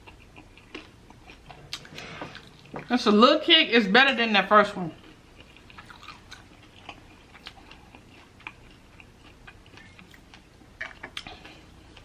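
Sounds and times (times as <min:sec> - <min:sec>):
chewing chicken wing: 0:00.0 - 0:02.8, 0:05.0 - 0:12.0.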